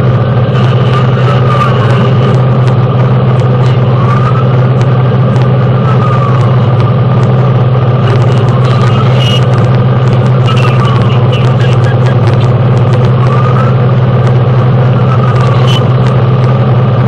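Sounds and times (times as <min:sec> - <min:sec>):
fire engine low drone: 0:00.0 - 0:17.0
siren wailing faintly: 0:00.0 - 0:17.0.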